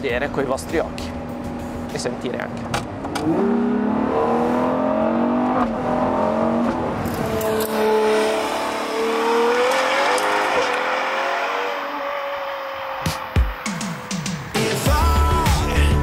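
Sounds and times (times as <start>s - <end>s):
sports car engine accelerating: 0.9s - 14.2s.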